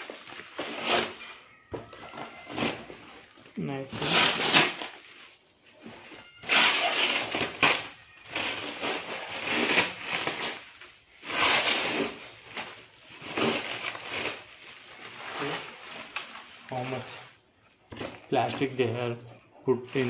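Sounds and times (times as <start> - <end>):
plastic wrapping crinkling: 0.0 - 20.0.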